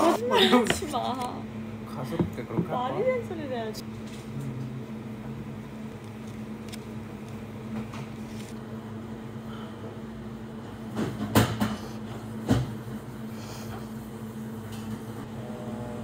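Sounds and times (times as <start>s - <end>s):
mechanical room hum: 0.0s - 16.0s.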